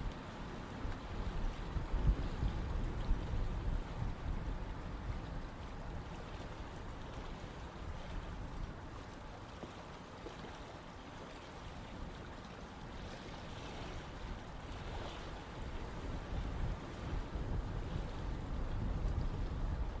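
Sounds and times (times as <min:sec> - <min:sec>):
stream flowing: 0:02.6 - 0:20.0.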